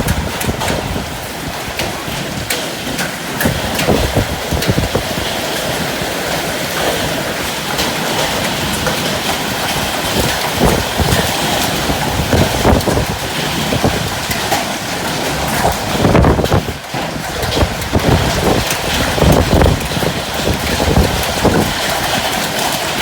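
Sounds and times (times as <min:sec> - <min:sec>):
steady rain falling: 0:00.0 - 0:23.0
wind gusting: 0:00.0 - 0:23.0.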